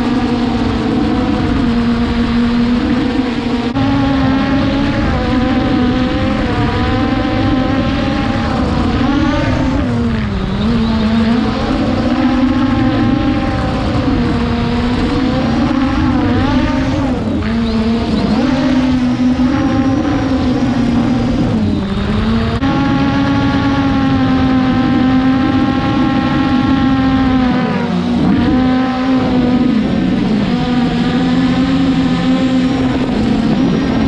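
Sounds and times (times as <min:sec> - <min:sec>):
drone propellers whining: 0:00.0 - 0:34.0.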